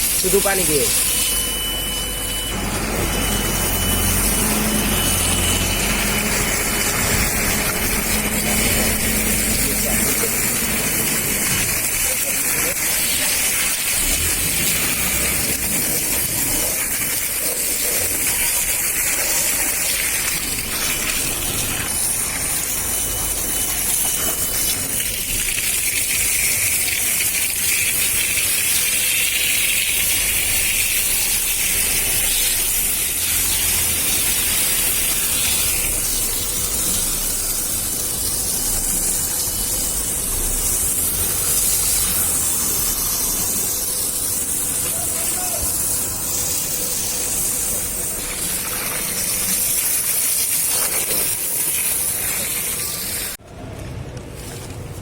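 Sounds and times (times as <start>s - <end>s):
water spraying from a hose: 0.0s - 53.4s.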